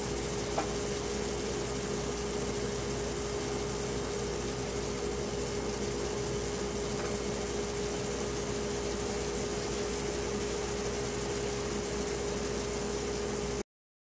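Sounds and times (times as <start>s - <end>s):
machine humming steadily: 0.0s - 13.6s.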